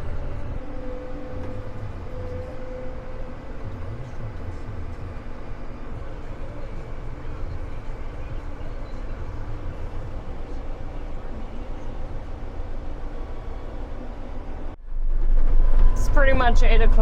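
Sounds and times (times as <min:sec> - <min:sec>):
diesel farm machinery engine running: 0:00.0 - 0:17.0.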